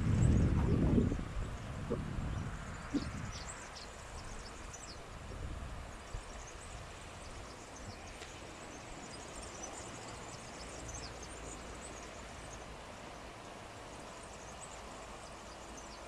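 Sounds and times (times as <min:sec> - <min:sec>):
small birds chirping: 0:00.1 - 0:05.2, 0:05.9 - 0:16.0
river water rushing: 0:02.6 - 0:16.0.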